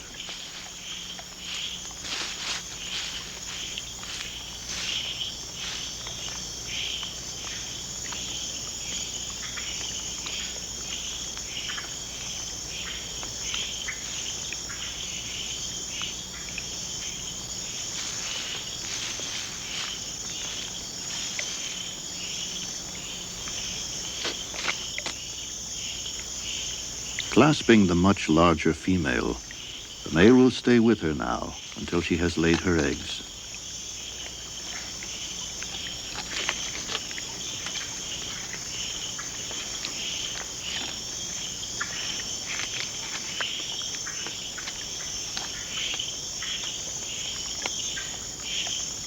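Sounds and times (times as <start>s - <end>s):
frogs chirping and clicking: 0.0s - 49.0s
insects trilling: 0.0s - 49.0s.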